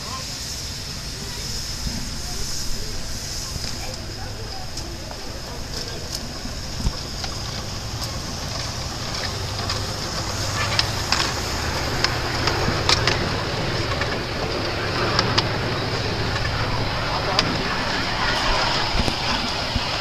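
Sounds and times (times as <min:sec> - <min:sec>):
low rumble of train: 0:00.0 - 0:20.0
steam hissing: 0:00.0 - 0:20.0
train clicks and knocks: 0:00.0 - 0:20.0.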